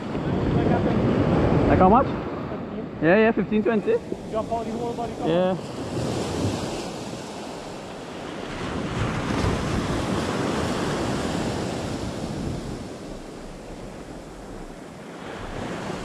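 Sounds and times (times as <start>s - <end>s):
surf breaking on beach: 0.0s - 16.0s
wind rumbling on microphone: 0.0s - 16.0s.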